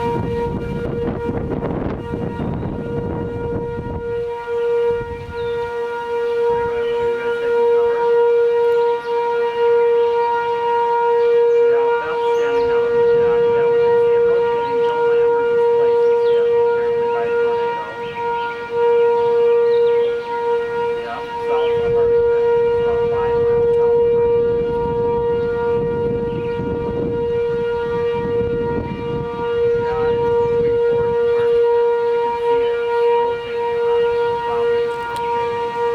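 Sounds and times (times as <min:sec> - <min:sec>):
tornado siren steady tone: 0:00.0 - 0:35.9.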